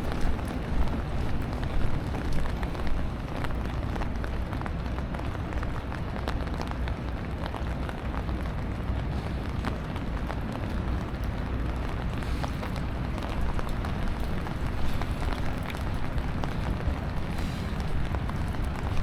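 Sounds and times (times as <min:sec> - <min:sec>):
raindrops ticking close by: 0:00.0 - 0:19.0
steady rain falling: 0:00.0 - 0:19.0.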